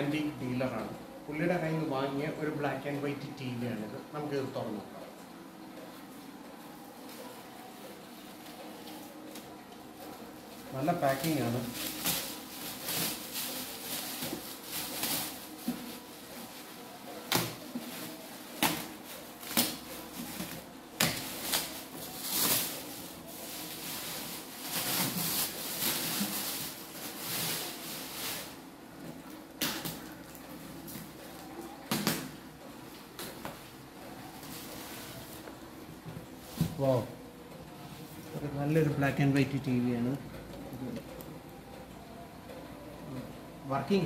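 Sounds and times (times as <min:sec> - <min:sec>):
plastic sheet rustling and crinkling: 0:05.8 - 0:41.7.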